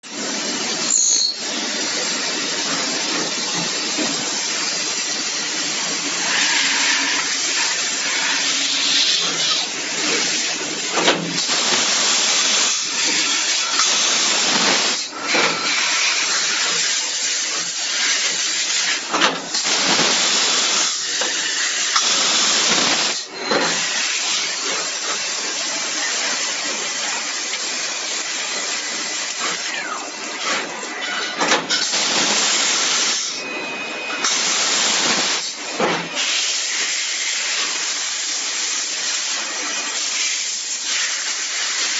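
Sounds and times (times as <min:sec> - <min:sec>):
milling machine hissing: 0:00.1 - 0:41.9.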